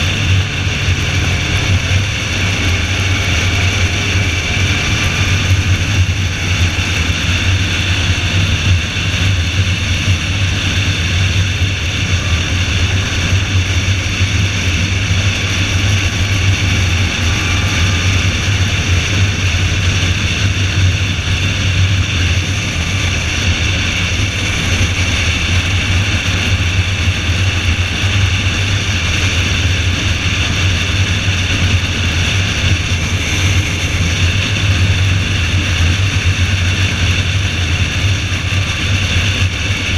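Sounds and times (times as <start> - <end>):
car engine drone: 0.0 - 39.9
road and wind noise: 0.0 - 39.9.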